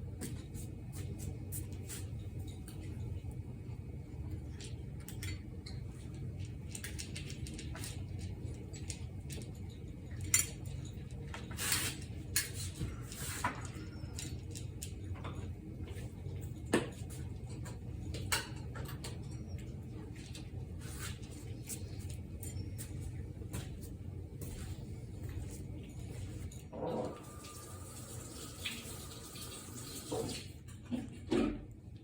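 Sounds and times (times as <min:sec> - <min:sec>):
steady low hum: 0:00.0 - 0:27.7.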